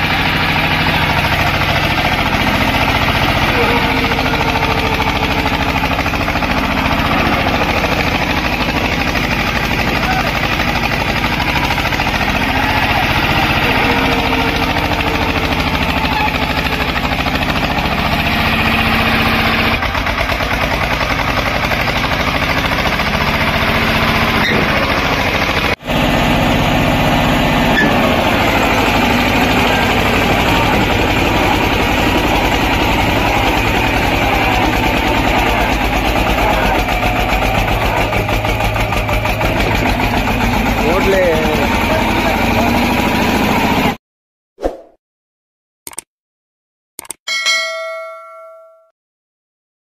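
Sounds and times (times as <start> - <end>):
tractor engine running under load: 0.0 - 44.0.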